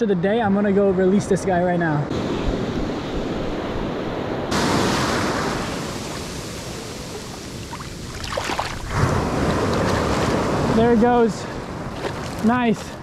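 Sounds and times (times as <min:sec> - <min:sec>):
waves breaking on beach: 0:02.1 - 0:13.0.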